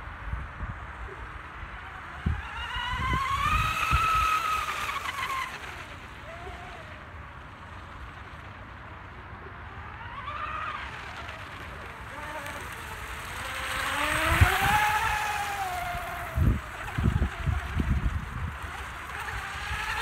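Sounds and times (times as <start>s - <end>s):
model boat motor whining: 0.0s - 20.0s.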